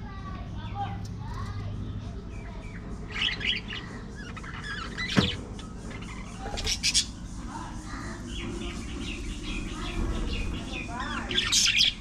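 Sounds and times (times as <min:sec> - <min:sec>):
budgerigars chirping: 0:02.4 - 0:12.0.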